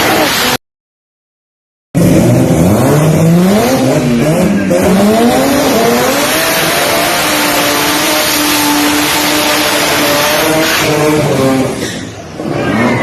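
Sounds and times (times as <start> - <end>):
car engine revving: 2.0 - 12.8.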